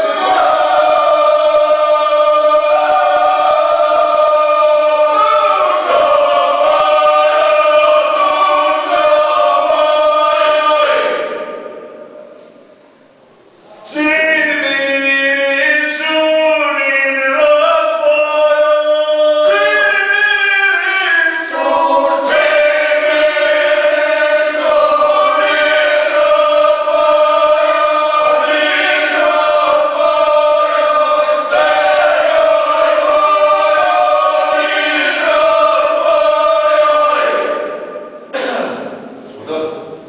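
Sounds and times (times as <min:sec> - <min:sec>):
men singing unaccompanied: 0:00.0 - 0:11.4, 0:13.9 - 0:37.7.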